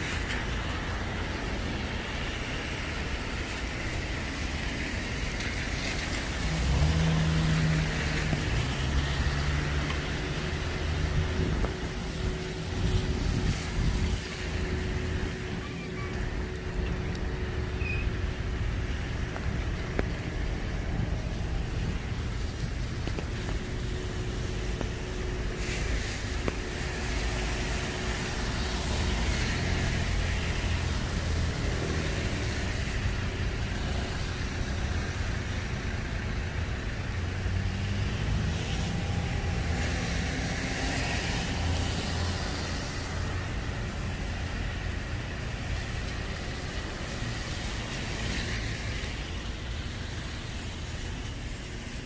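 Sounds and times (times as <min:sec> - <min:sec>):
low engine rumble: 0:00.0 - 0:52.0
tyres hissing on wet road: 0:00.0 - 0:52.0.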